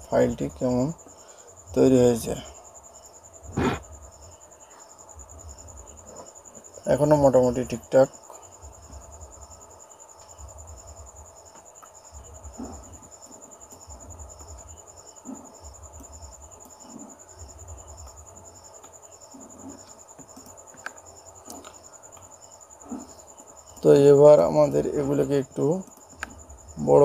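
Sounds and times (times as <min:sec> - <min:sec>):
cricket trill: 0:00.0 - 0:27.0.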